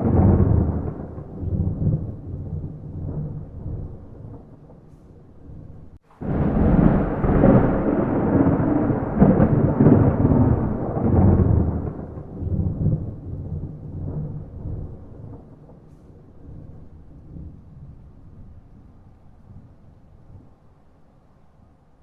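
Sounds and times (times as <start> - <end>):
thunder crack and rumble: 0.0 - 20.6.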